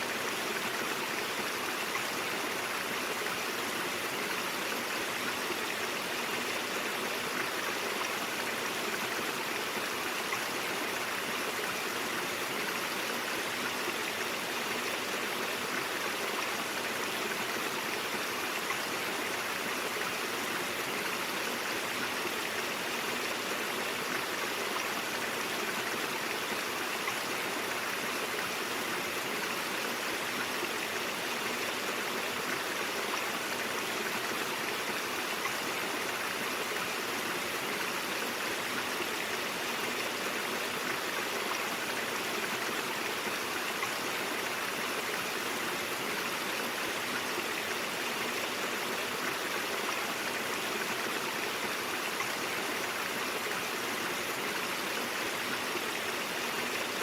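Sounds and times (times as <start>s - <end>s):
brook flowing over rocks: 0.0s - 57.0s.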